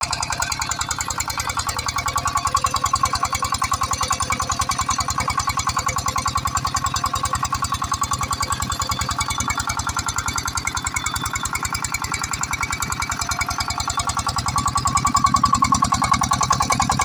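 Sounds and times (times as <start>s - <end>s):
diesel engine knocking: 0.0s - 17.0s.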